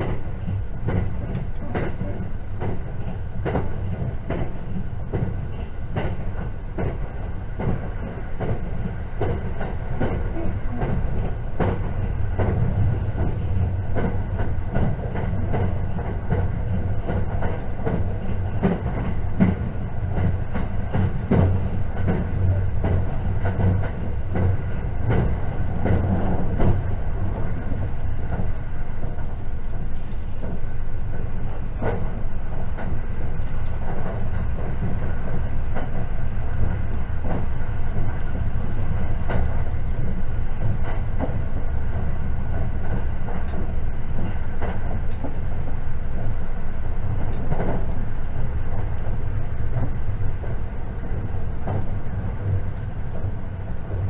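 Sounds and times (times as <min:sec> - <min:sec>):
train running rumble: 0:00.0 - 0:54.0
wheels clicking and knocking on track: 0:00.0 - 0:54.0.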